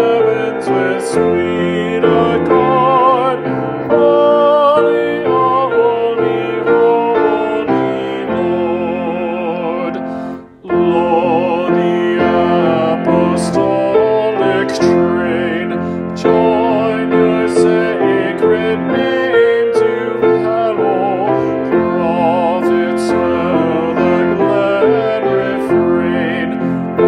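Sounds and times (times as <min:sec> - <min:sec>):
keyboard accompaniment: 0:00.0 - 0:27.0
person singing a hymn: 0:00.0 - 0:27.0.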